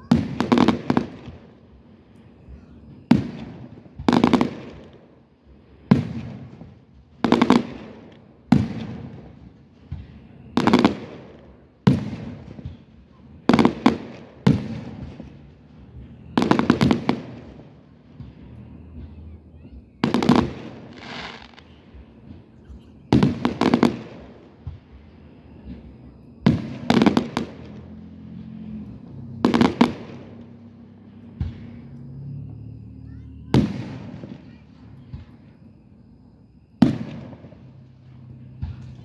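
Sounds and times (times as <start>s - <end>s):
fireworks booming: 0.0s - 39.0s.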